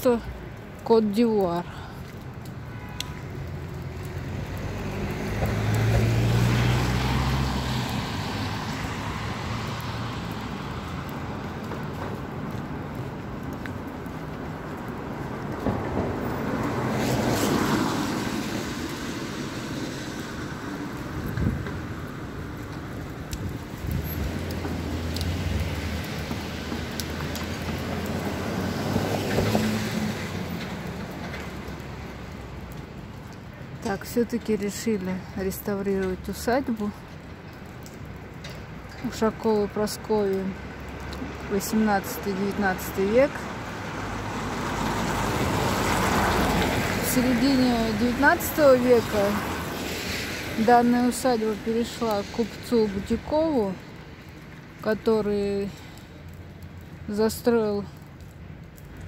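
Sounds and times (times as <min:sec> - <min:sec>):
city traffic noise: 0:00.0 - 0:59.0
street noise: 0:00.0 - 0:59.0
car driving past on wet street: 0:01.8 - 0:59.0.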